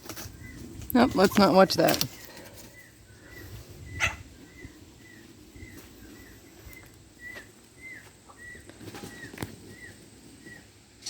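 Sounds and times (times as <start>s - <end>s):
bird chirping: 0.3s - 10.8s.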